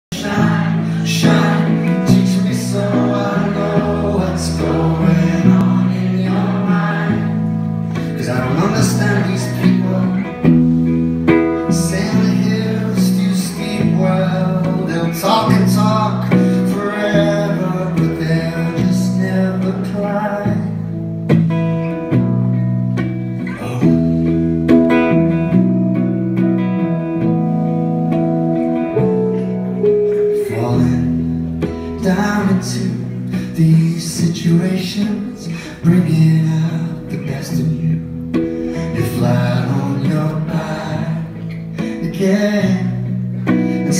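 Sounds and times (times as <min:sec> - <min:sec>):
man singing: 0:00.1 - 0:21.0, 0:23.4 - 0:24.3, 0:30.2 - 0:43.9
bass and drums: 0:00.1 - 0:36.8
electric guitar strumming: 0:00.1 - 0:43.9.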